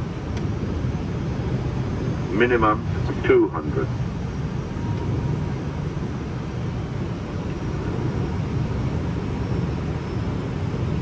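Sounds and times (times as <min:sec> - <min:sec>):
aircraft cockpit rumble: 0:00.0 - 0:11.0.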